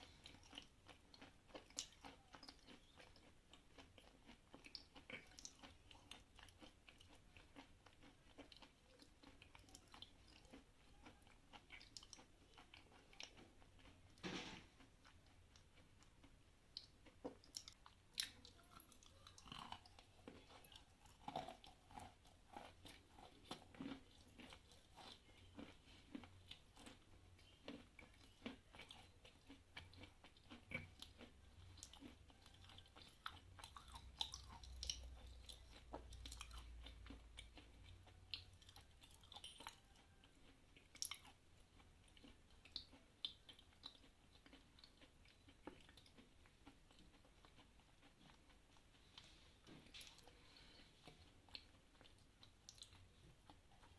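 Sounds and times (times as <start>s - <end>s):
person chewing chalk: 0.0s - 53.9s.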